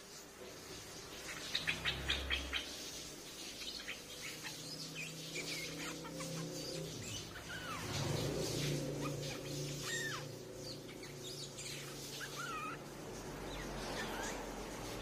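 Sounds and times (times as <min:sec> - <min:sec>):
bird chirping: 0:00.8 - 0:15.0.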